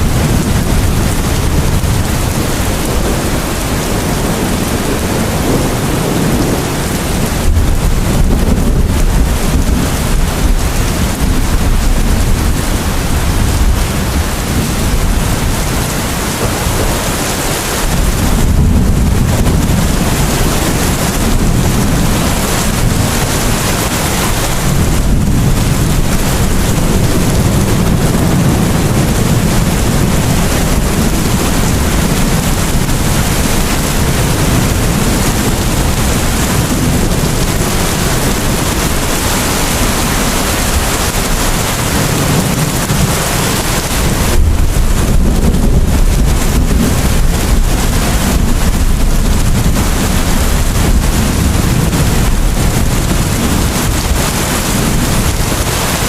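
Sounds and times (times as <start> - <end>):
rain falling: 0.0 - 56.0
thunder rumbling: 0.0 - 56.0.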